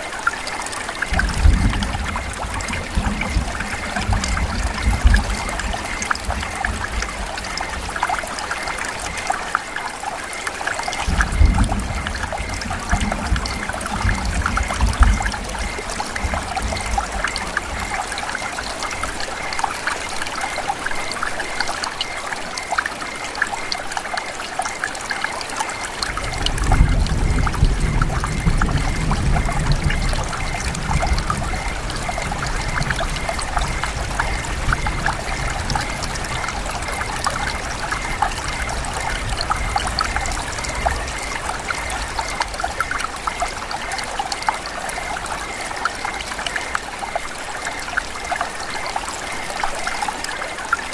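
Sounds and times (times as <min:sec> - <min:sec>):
rain drops ticking in forest: 0:00.0 - 0:50.9.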